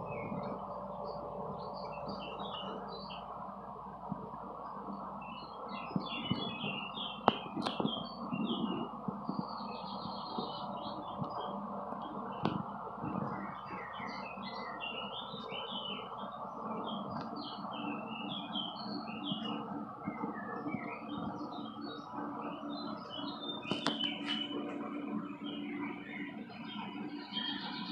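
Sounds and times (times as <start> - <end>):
background hum: 0.0 - 27.9
small birds chirping: 0.0 - 27.9.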